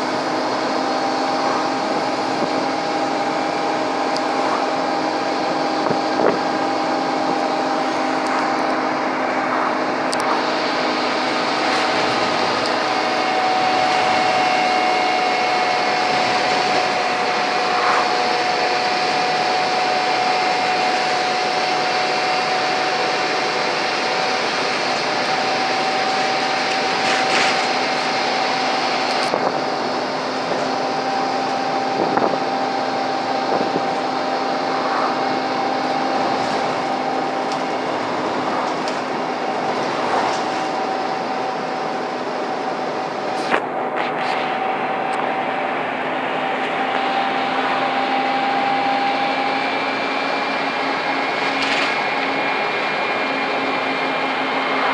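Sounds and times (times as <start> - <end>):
bus engine whining under load: 0.0 - 54.9
low hum: 0.0 - 54.9.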